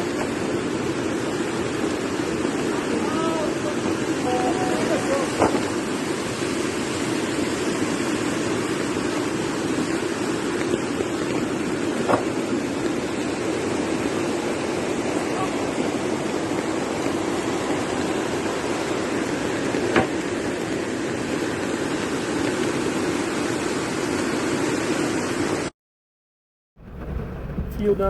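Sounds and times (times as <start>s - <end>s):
floodwater rushing: 0.0s - 25.7s, 26.8s - 28.0s.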